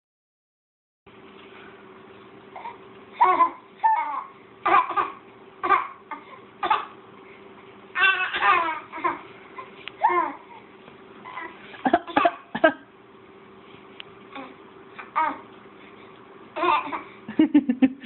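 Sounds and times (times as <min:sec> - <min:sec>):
faint steady hum: 0:01.1 - 0:18.0.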